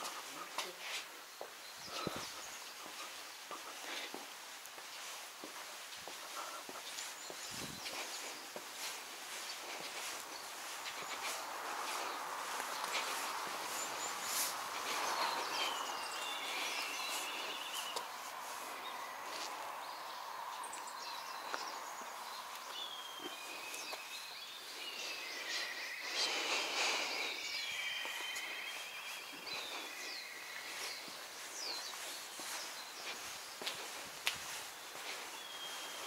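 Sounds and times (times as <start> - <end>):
outdoor background hiss: 0.0 - 36.0
small birds chirping: 0.0 - 36.0.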